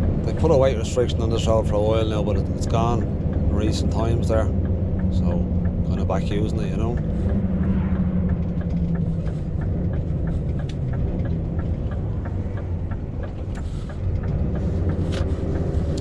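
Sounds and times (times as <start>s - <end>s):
light regular ticking: 0.0s - 16.0s
truck engine humming: 0.0s - 16.0s.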